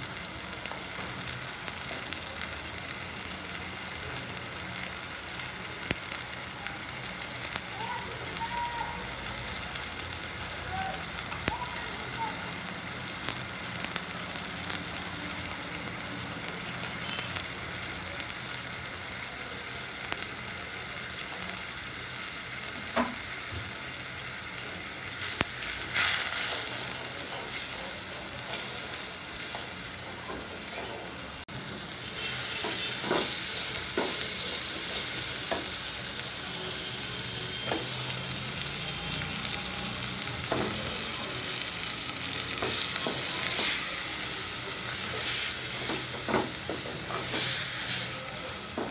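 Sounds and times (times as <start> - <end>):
onions sizzling in hot oil: 0.0 - 48.9.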